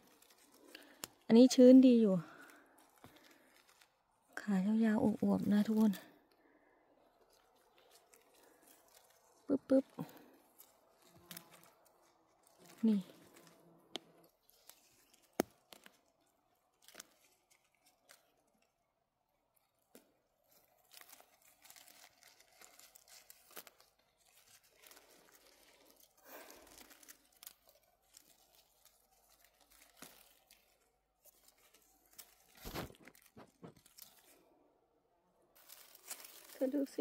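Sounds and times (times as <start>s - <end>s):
crunch: 0.0s - 1.3s, 2.2s - 4.4s, 5.0s - 34.6s, 35.5s - 37.0s
rustling of forest litter: 0.0s - 37.0s.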